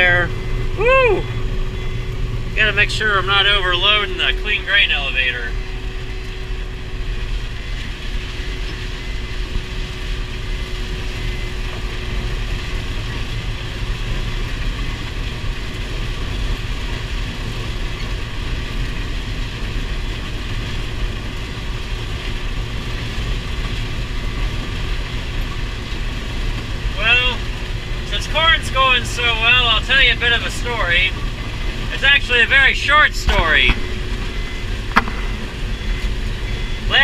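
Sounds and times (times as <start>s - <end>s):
combine harvester machinery drone: 0.0s - 37.0s
faint steady whine: 0.0s - 37.0s.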